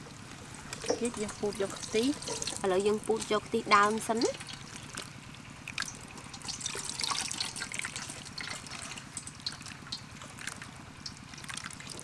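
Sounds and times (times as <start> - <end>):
small wet crackles and clicks: 0.0 - 12.0
liquid trickling into a steel bowl: 0.4 - 12.0.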